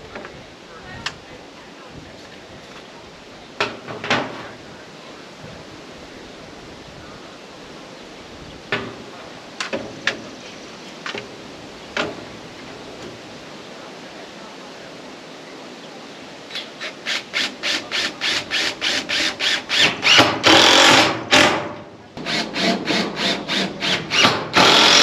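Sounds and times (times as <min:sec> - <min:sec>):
outdoor hiss: 0:00.0 - 0:25.0.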